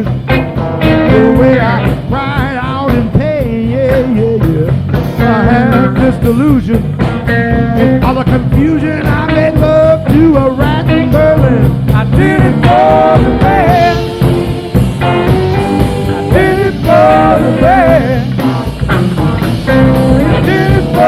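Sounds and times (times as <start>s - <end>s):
blues-rock band playing: 0.0s - 21.0s.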